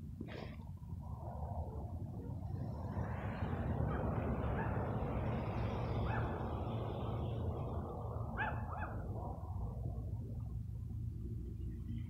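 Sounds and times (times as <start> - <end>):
low hum: 0.0 - 12.0
steady rushing noise: 0.0 - 12.0.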